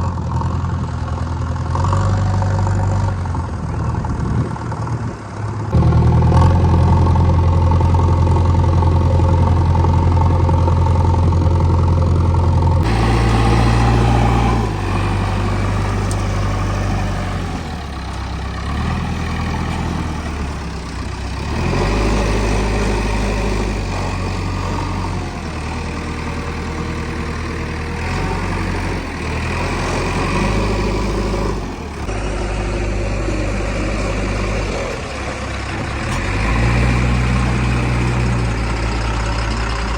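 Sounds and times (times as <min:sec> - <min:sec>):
diesel engine working under load: 0:00.0 - 0:39.9.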